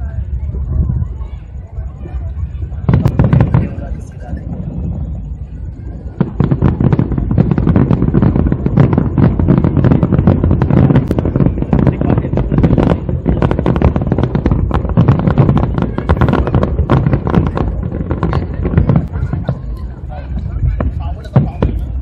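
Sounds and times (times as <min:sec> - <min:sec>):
fireworks cracks and booms: 0:00.0 - 0:22.0.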